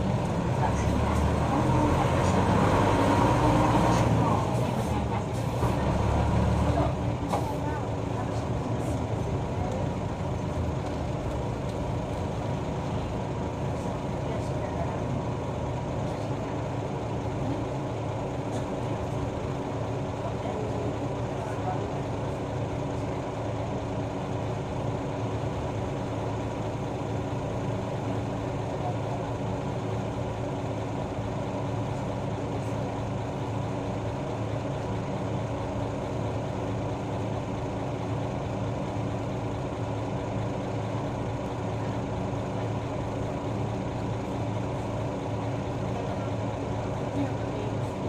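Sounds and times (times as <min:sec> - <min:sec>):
bus diesel engine humming: 0:00.0 - 0:48.0.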